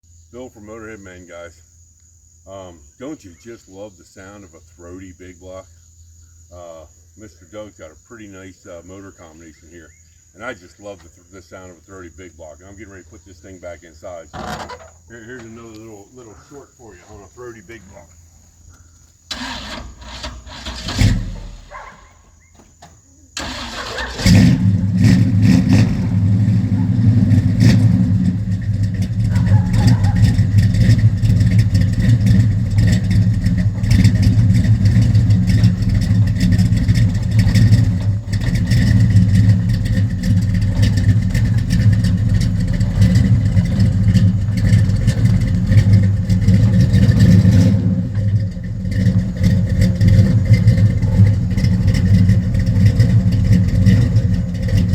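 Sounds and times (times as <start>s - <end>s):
car engine idling: 10.6s - 54.9s.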